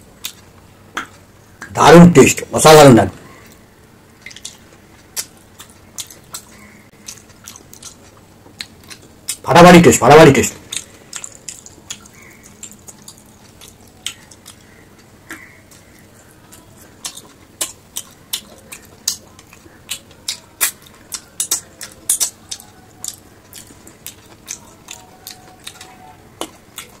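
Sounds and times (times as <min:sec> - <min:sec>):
man chewing and lip-smacking: 0:00.2 - 0:01.7, 0:04.2 - 0:09.4, 0:10.6 - 0:27.0.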